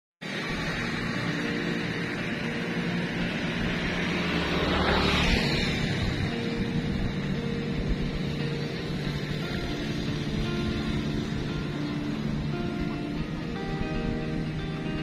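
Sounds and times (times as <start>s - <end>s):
road traffic engine noise: 0.2s - 15.0s
vehicle passing close: 0.2s - 15.0s.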